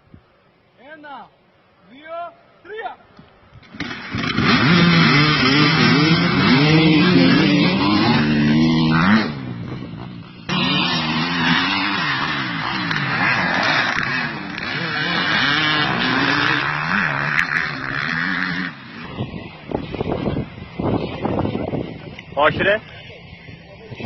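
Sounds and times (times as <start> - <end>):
motocross engines revving: 3.6 - 24.0.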